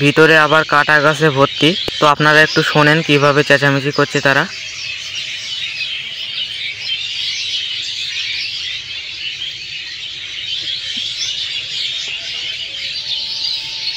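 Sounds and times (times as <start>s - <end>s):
flock of birds chattering: 0.0s - 13.9s.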